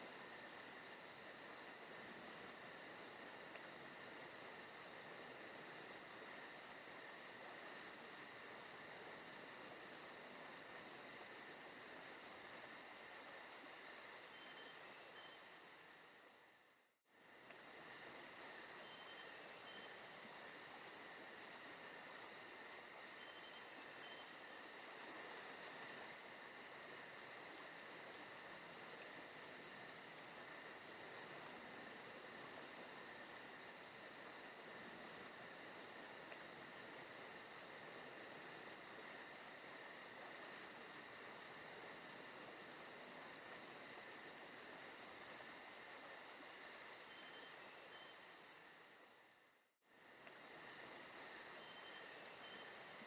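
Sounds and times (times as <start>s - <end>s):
insects chirping: 0.0s - 53.0s.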